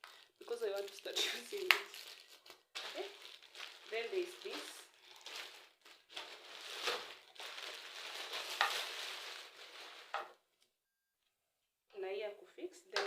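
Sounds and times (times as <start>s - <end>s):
plastic packaging rustling: 0.0s - 10.5s.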